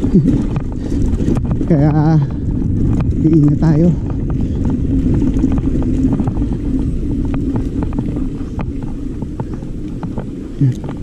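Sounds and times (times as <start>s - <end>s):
bike clicks and rattles: 0.0s - 11.0s
tyres rumbling on dirt: 0.0s - 11.0s
wind buffeting microphone: 0.0s - 11.0s.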